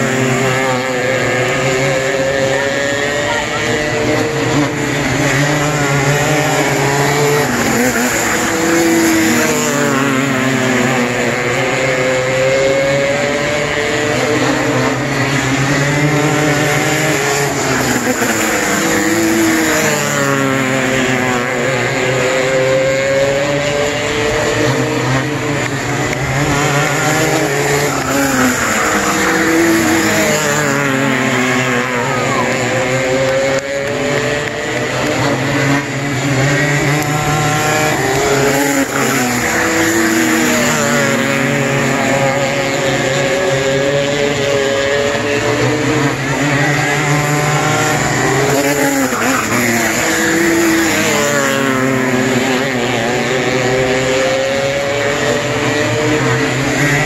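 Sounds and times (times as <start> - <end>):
racing car engines screaming: 0.0 - 57.0.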